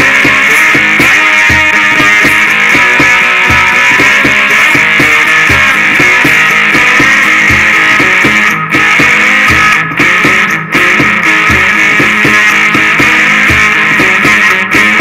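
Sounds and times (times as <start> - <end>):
amplified blues-rock guitar riff: 0.0 - 15.0
steady rhythmic beat: 0.0 - 15.0.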